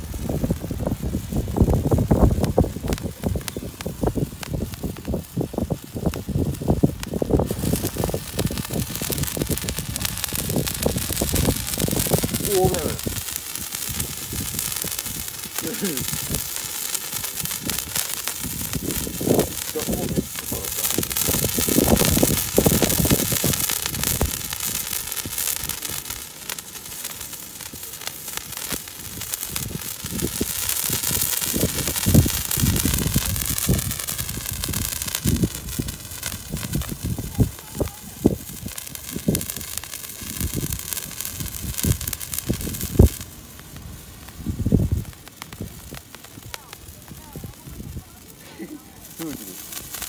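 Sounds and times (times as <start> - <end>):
crackles and pops: 0.0 - 50.0
spray fireworks hissing: 0.0 - 50.0.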